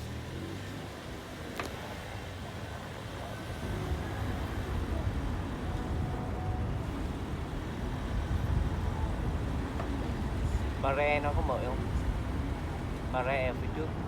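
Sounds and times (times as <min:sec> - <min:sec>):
car interior rumble: 0:00.0 - 0:14.0.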